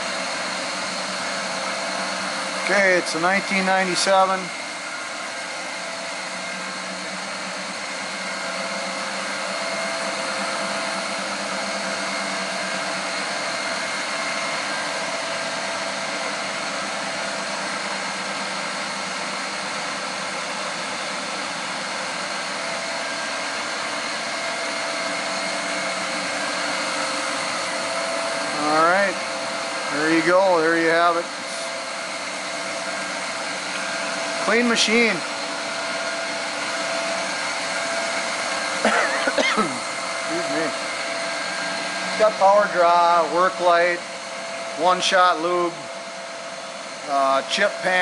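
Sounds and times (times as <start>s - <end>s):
milling machine hum and hiss: 0.0s - 48.0s.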